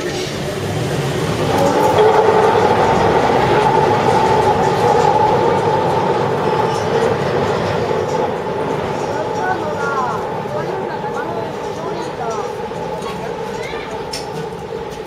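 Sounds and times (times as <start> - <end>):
electric train rumbling: 0.0 - 15.0
train whine: 0.0 - 15.0.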